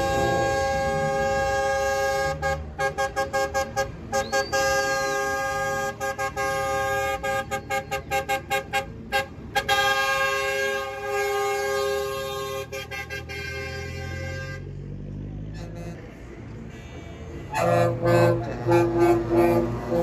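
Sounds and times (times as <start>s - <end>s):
multi-tone air horns tooting: 0.0s - 14.8s, 15.5s - 20.0s.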